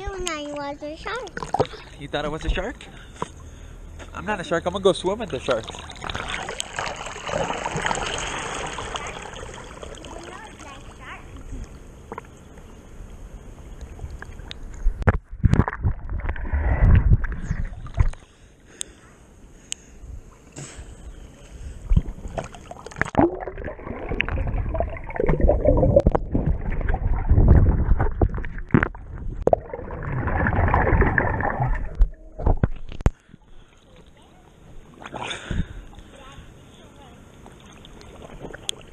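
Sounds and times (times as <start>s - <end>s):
water splashing and sloshing: 0.0s - 3.6s, 4.8s - 18.5s, 20.2s - 38.9s.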